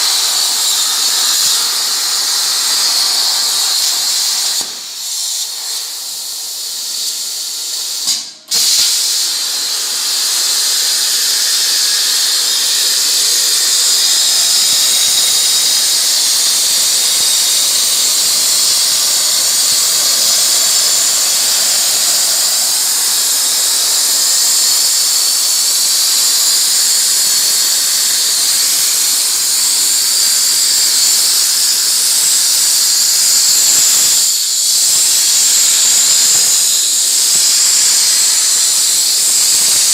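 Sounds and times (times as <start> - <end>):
plasma cutting arc hissing: 0.0 - 39.9.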